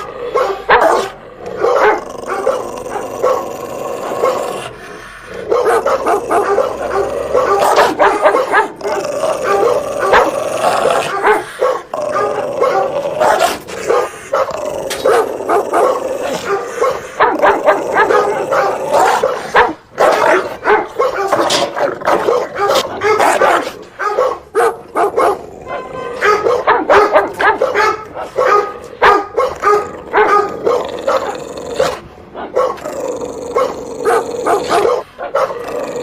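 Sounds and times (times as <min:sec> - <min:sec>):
dog barking loudly: 0:00.0 - 0:36.0.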